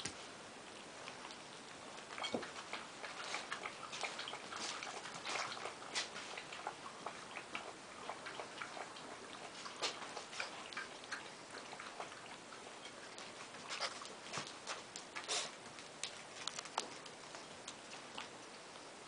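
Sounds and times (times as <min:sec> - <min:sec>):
puppies crunching kibble: 0:00.0 - 0:19.0.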